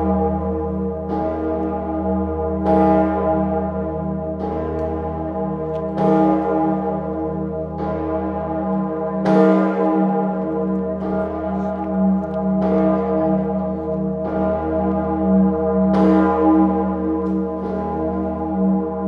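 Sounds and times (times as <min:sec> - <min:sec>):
large church bells ringing: 0:00.0 - 0:19.0.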